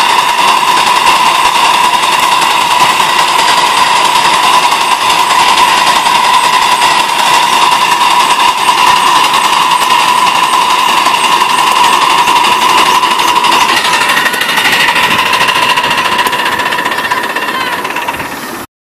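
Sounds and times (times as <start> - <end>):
high ringing tone: 0.0 - 18.6
wheels clattering on rails: 0.0 - 18.6.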